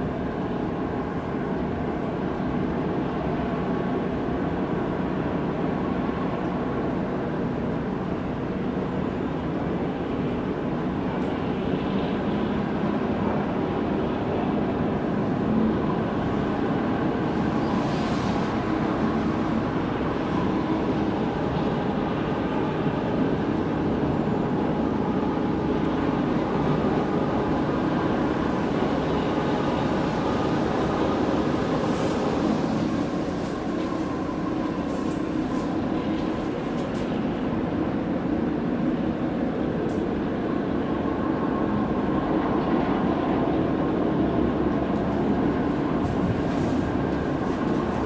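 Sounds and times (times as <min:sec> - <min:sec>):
tugboat diesel engines droning: 0:00.0 - 0:48.0.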